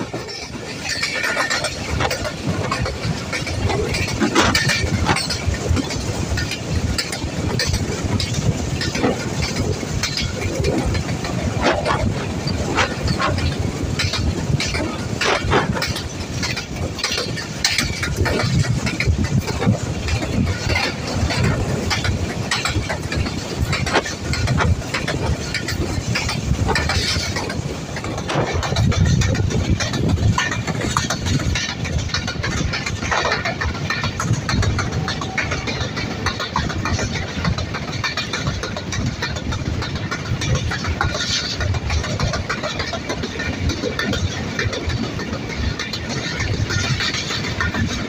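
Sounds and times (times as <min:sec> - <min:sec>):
train coach rattles and clicks: 0:00.0 - 0:48.0
train running gear rumble: 0:00.0 - 0:48.0.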